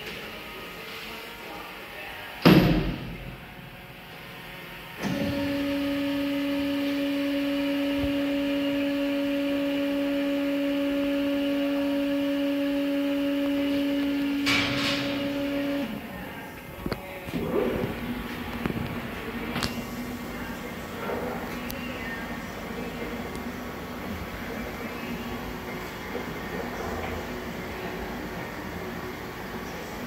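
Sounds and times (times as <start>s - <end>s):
mixer motor humming: 5.0s - 30.0s.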